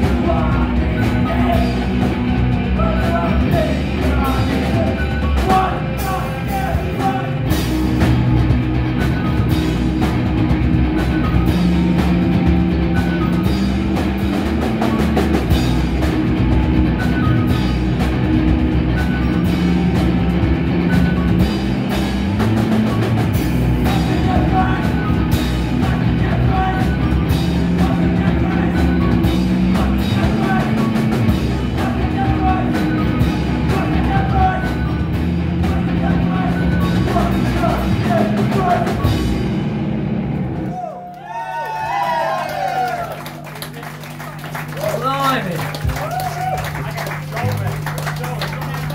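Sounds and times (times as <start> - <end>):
steady drum beat: 0.0 - 40.7, 41.9 - 48.9
rock band playing live: 0.0 - 40.8, 41.9 - 48.9.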